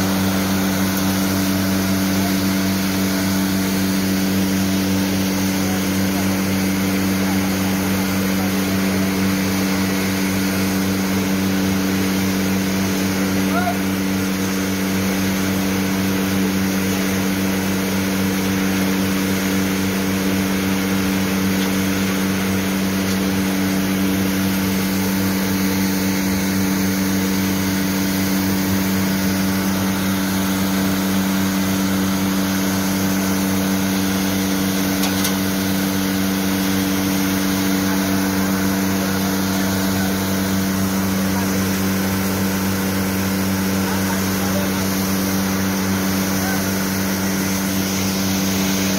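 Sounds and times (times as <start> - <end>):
processing machine humming: 0.0 - 48.9.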